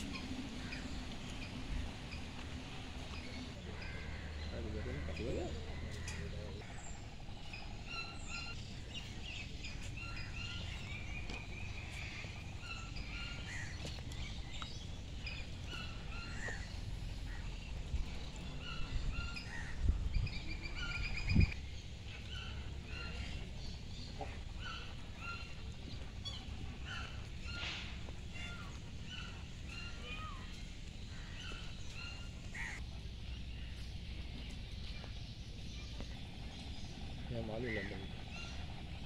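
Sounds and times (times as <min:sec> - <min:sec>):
low microphone rumble: 0:00.0 - 0:37.4
birds chirping and calling: 0:00.0 - 0:39.0.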